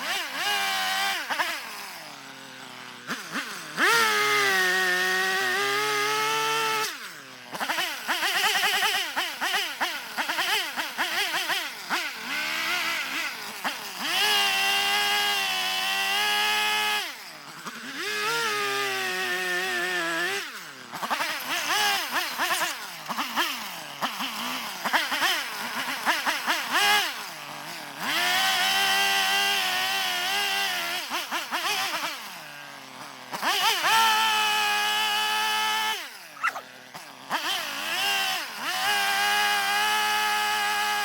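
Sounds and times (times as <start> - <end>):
chainsaw revving and cutting wood: 0.0 - 41.0.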